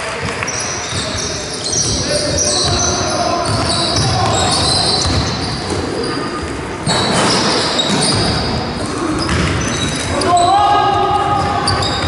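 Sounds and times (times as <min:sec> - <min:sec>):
shoe squeaks: 0:00.5 - 0:10.5, 0:11.5 - 0:12.0.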